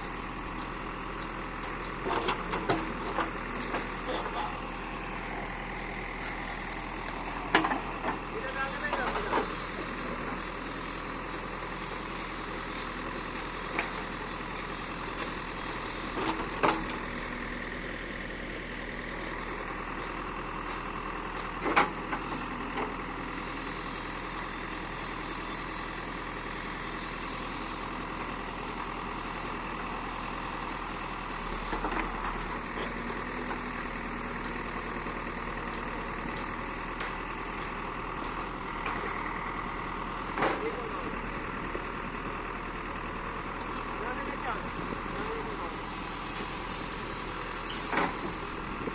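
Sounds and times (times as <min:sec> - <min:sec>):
steady engine drone: 0:00.0 - 0:48.9.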